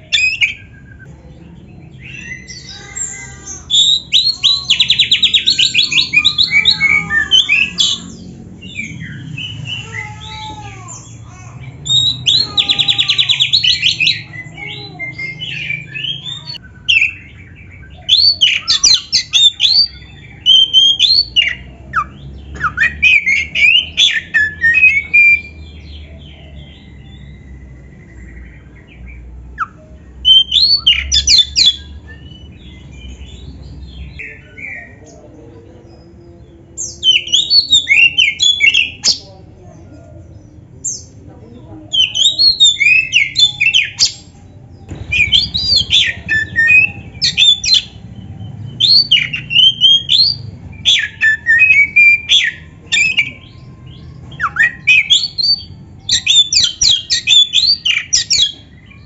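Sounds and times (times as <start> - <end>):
bird singing trills and whistles: 0.0 - 1.1, 1.8 - 35.2, 36.8 - 39.3, 41.9 - 59.0.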